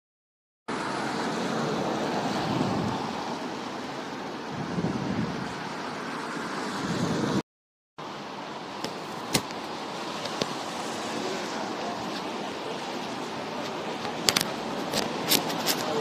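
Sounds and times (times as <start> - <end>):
tyres hissing on wet road: 0.7 - 7.4, 8.0 - 16.0.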